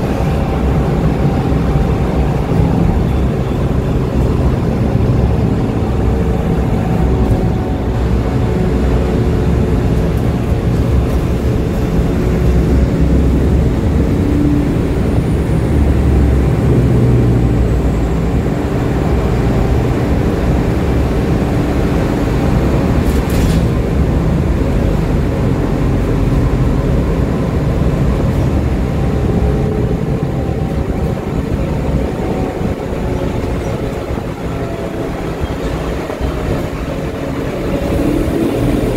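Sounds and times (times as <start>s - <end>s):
bus engine droning: 0.0s - 38.9s.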